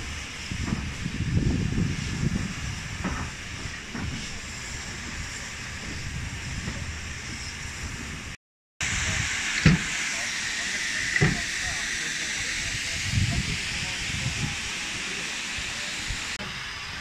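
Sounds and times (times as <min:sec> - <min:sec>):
train carriage rumbling: 0:00.0 - 0:16.6
steam hissing: 0:00.0 - 0:17.0.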